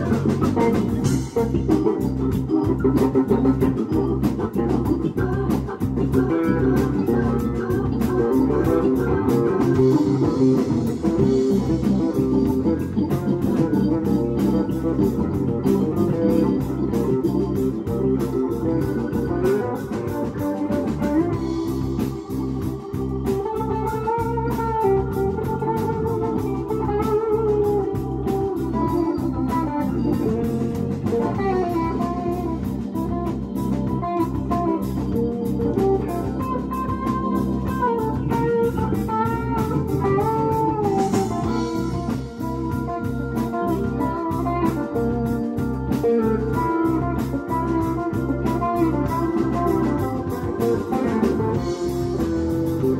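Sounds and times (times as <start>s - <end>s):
bass guitar: 0.0s - 52.9s
drums: 0.0s - 52.9s
electric guitar melody: 0.0s - 52.9s
keyboards: 0.0s - 52.9s.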